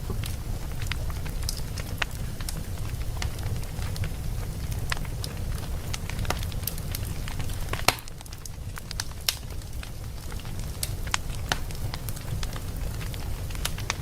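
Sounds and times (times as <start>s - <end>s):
steady low rumble: 0.0s - 14.0s
wood fire crackling and popping: 0.0s - 14.0s.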